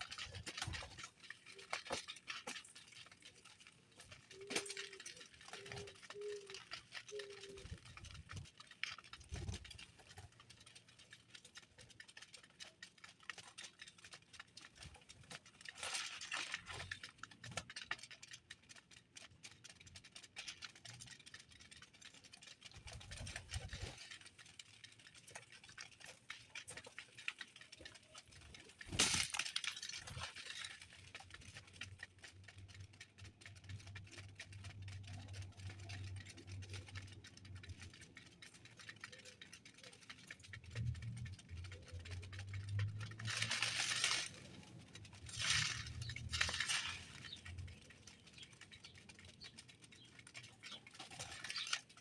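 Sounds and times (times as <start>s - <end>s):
birds pecking at seed: 0.0s - 52.0s.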